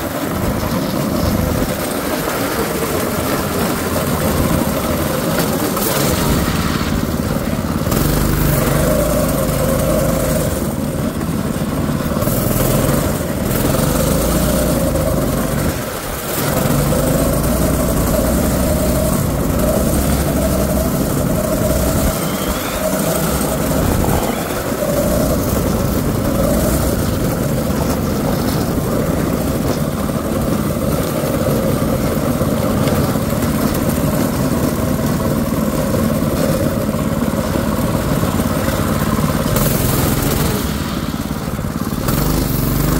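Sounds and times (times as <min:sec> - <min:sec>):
small engine revving: 0:00.0 - 0:42.9.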